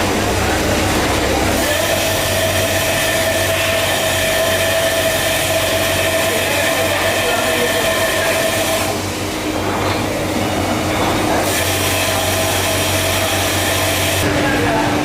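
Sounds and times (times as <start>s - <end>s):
machinery whining tone: 0.0s - 15.0s
workshop machinery hum: 0.0s - 15.0s.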